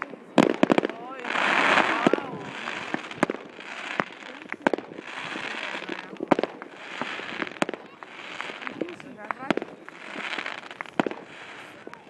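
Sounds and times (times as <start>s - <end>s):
crackling hiss of fireworks: 0.0s - 12.0s
firework bangs: 0.0s - 12.0s.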